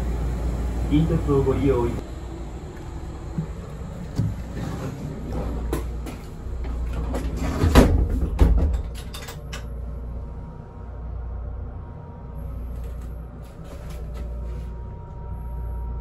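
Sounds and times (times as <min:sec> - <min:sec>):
steady low rumble: 0:00.0 - 0:07.3, 0:08.1 - 0:16.0.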